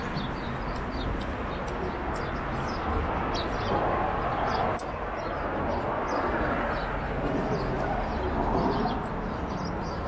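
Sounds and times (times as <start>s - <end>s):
city traffic rumble: 0.0s - 10.0s
small birds chirping: 0.0s - 10.0s.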